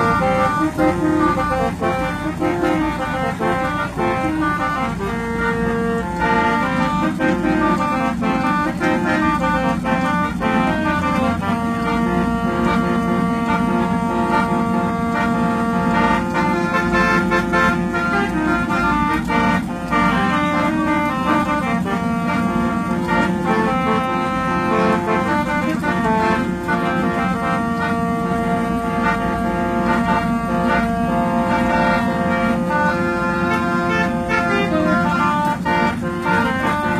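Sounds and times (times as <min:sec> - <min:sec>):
multi-tone bus air horn tune: 0:00.0 - 0:36.9.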